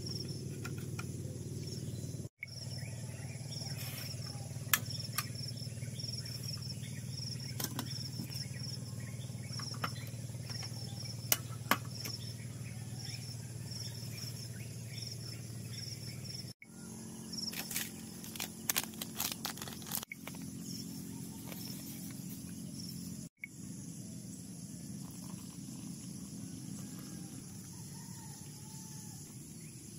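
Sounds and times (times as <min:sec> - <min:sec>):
crickets chirping: 0:00.0 - 0:29.9.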